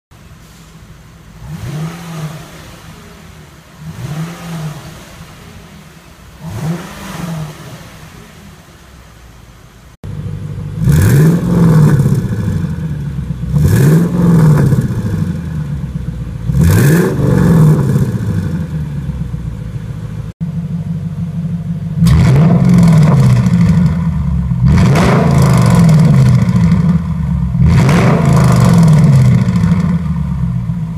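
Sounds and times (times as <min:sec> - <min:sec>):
car exhaust idling and revving: 0:00.1 - 0:30.9.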